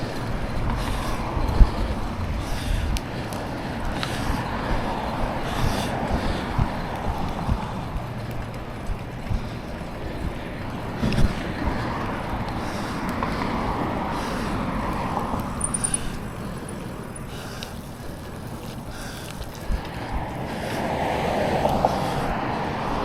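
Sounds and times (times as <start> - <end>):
bicycle tyre rumble: 0.0 - 23.0
wind rushing over microphone: 0.0 - 23.0.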